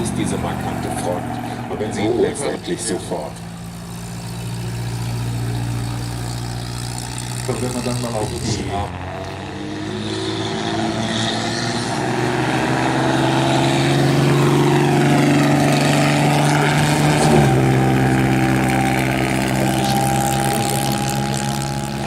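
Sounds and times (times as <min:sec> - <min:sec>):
car engine accelerating past: 0:00.0 - 0:22.0.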